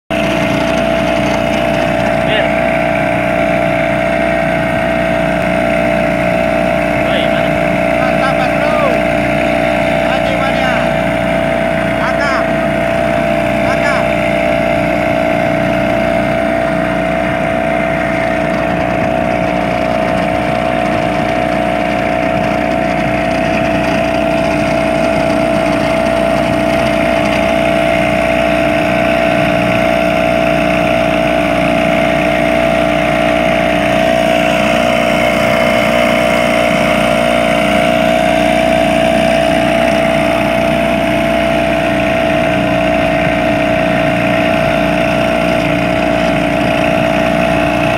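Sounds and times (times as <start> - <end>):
boat engine running: 0.1 - 47.9.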